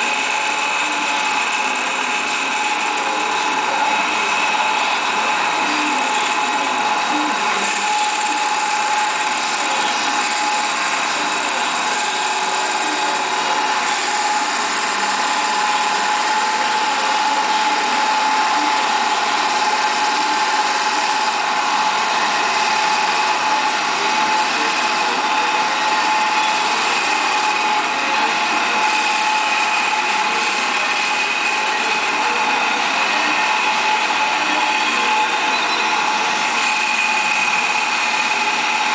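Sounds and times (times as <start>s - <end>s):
cutting tool shaving spinning wood: 0.0s - 38.9s
machine whine: 0.0s - 38.9s.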